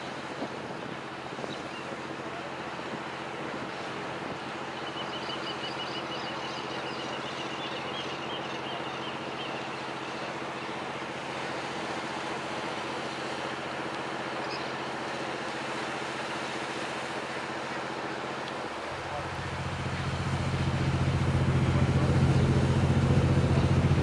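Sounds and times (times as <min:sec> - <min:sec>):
boat engine drone: 0:00.0 - 0:24.0
water rushing: 0:00.0 - 0:24.0.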